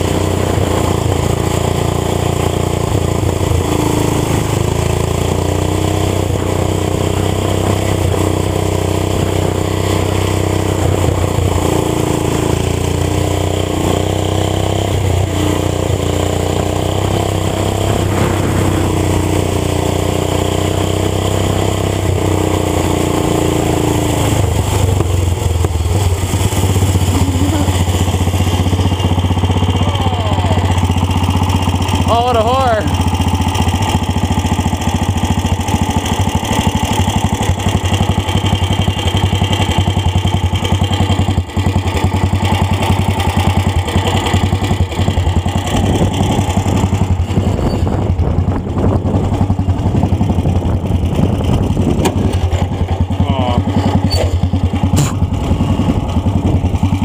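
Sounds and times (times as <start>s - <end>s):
small petrol engines racing: 0.0s - 57.0s.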